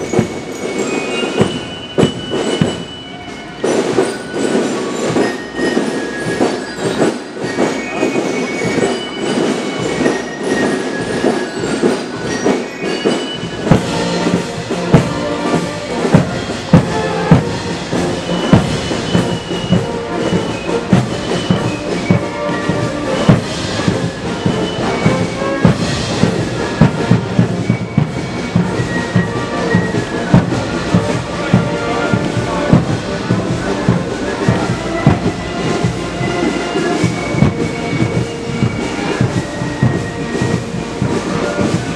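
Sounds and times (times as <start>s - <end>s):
high piping melody: 0.0s - 41.9s
marching drum beats: 0.0s - 41.9s.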